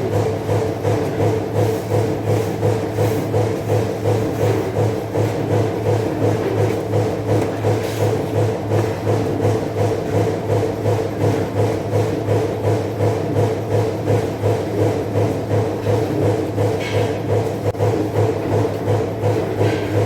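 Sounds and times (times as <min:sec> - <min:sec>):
shop machine humming: 0:00.0 - 0:20.0.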